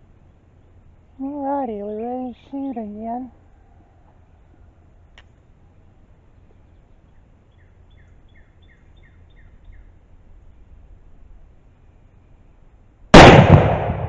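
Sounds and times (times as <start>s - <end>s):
songbird chirping: 0.0s - 12.6s
low outdoor rumble: 0.0s - 14.0s.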